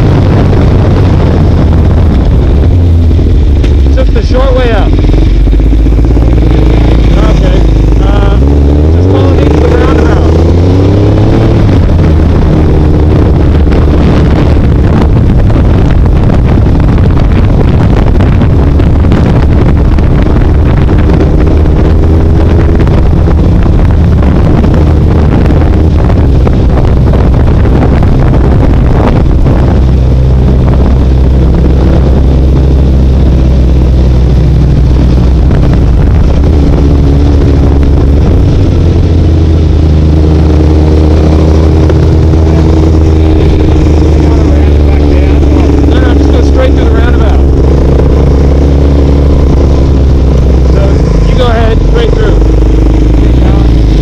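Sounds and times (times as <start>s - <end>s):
engine drone: 0.0s - 54.0s
wind buffeting microphone: 0.0s - 54.0s.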